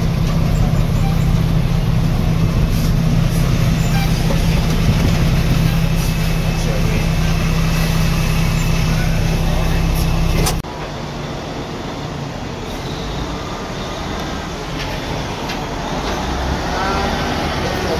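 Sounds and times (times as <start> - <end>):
diesel truck engine humming: 0.0 - 17.9
outdoor background noise: 0.0 - 17.9.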